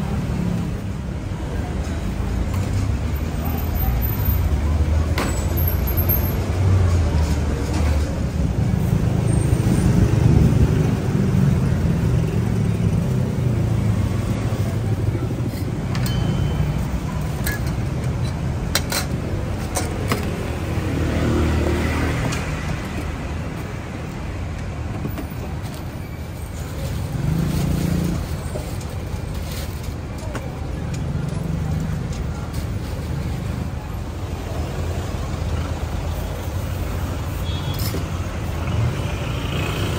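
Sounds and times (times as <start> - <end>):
cars and motorbikes passing: 2.6 - 25.6, 26.6 - 28.9, 30.5 - 39.9.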